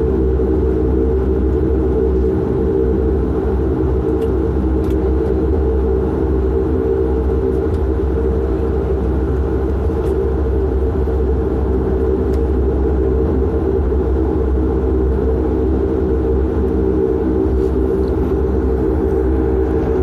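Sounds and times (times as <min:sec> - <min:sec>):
turboprop engine cabin drone: 0:00.0 - 0:20.0.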